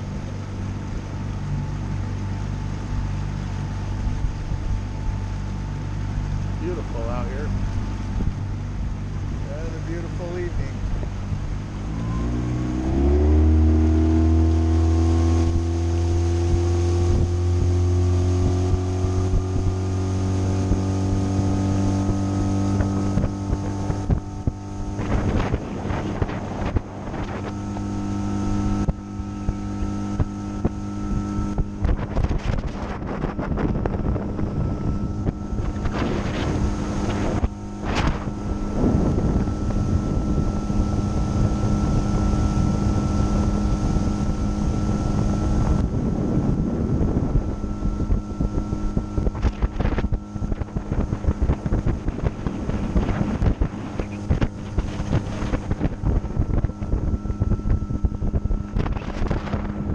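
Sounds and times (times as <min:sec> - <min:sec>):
outboard motor throttling up: 0:00.0 - 0:59.9
wind on microphone: 0:00.0 - 0:59.9.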